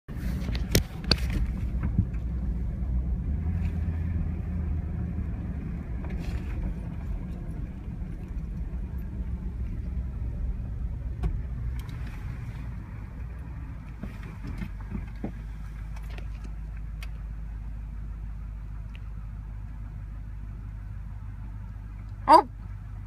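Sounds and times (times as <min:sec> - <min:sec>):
car engine rumbling: 0:00.1 - 0:23.0.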